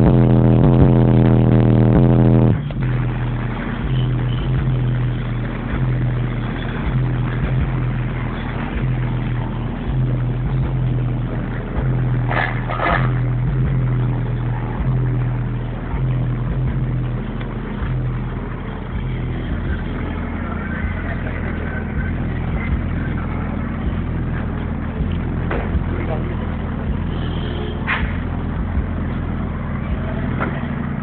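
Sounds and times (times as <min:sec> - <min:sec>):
car subwoofers playing bass-heavy music: 0:00.0 - 0:31.0.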